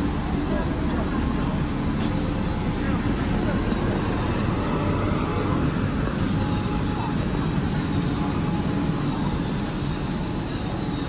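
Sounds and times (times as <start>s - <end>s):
passers-by talking: 0.0s - 11.0s
traffic rumble: 0.0s - 11.0s.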